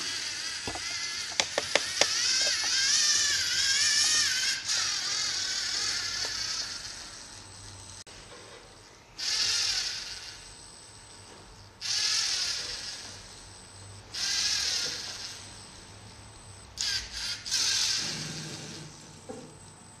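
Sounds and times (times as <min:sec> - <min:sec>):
small gear motors whirring: 0:00.0 - 0:08.0, 0:09.2 - 0:15.9, 0:16.7 - 0:19.0.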